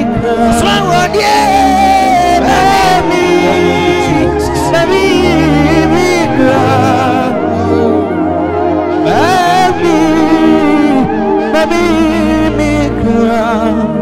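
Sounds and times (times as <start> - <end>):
backing chords: 0.0 - 14.0
man singing with vibrato: 0.0 - 14.0.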